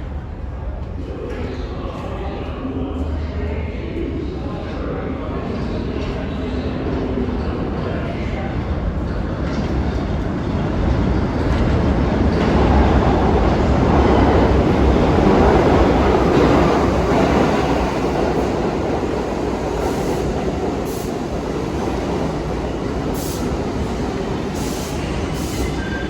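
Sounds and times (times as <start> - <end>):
subway train rumbling on track: 0.0 - 26.0.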